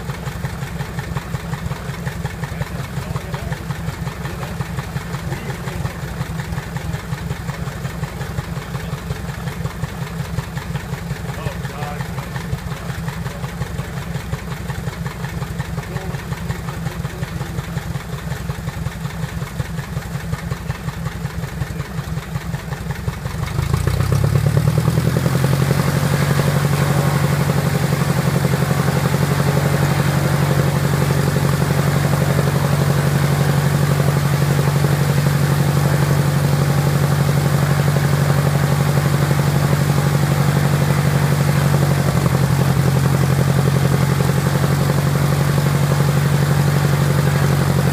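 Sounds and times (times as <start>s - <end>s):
piston aircraft engine: 0.0s - 47.9s.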